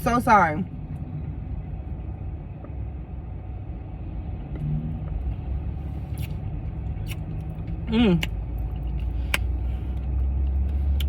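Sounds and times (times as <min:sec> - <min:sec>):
low vehicle rumble inside car: 0:00.0 - 0:11.0.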